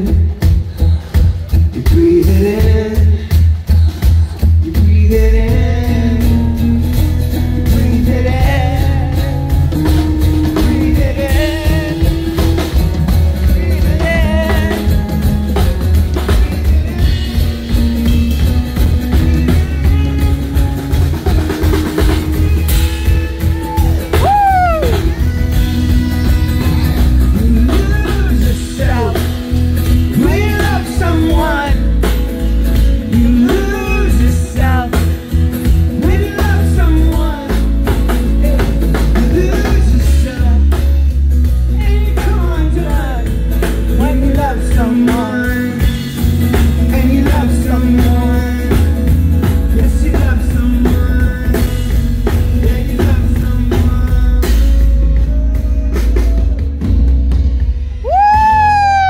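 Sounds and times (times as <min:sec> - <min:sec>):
person singing lead vocal: 0:00.0 - 0:18.4, 0:21.4 - 0:57.2
rock band playing: 0:00.0 - 0:59.0.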